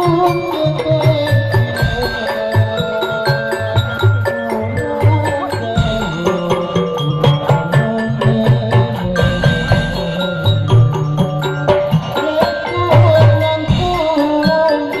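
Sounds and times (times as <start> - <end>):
hand drums: 0.0 - 15.0
sustained melody line: 0.0 - 15.0.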